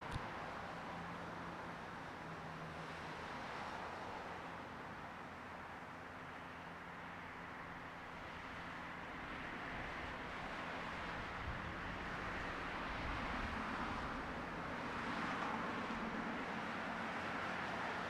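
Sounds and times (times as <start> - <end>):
cars passing on street: 0.0 - 18.0.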